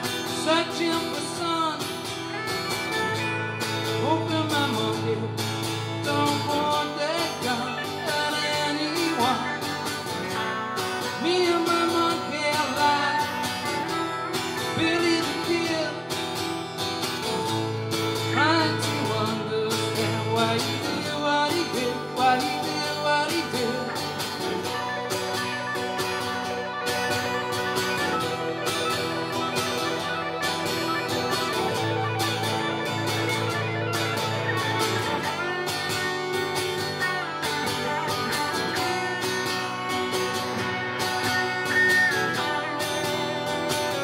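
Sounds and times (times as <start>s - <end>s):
acoustic guitar rhythm: 0.0s - 44.0s
electric guitar lead with bends: 0.0s - 44.0s.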